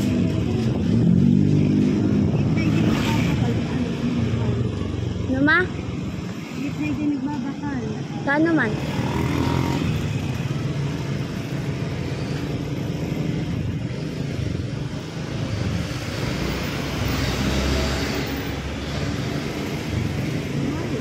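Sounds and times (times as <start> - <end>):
road traffic rumbling: 0.0 - 21.0.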